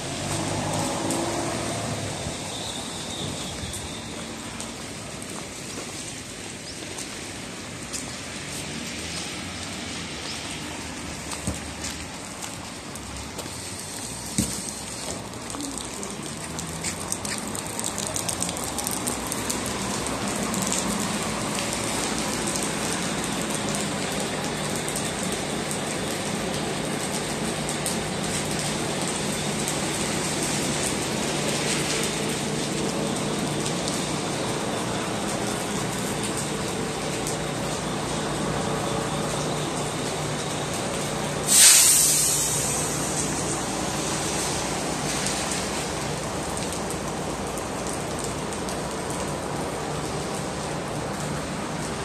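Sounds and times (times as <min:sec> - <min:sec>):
rain falling on pavement and canopy: 0:00.0 - 0:52.0.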